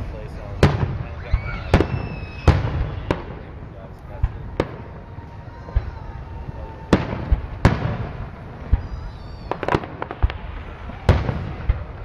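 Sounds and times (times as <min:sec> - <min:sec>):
fireworks bangs with echo: 0:00.0 - 0:12.0
fireworks crackling: 0:00.0 - 0:12.0.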